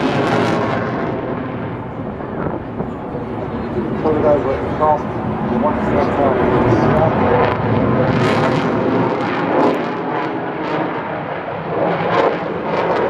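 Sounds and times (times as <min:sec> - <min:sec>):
aircraft engine rushing: 0:00.0 - 0:13.0.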